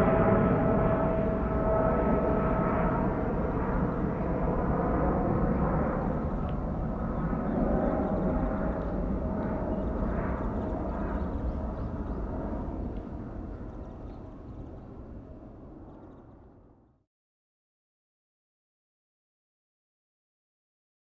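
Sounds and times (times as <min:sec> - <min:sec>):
jet engine rumble: 0:00.0 - 0:16.9.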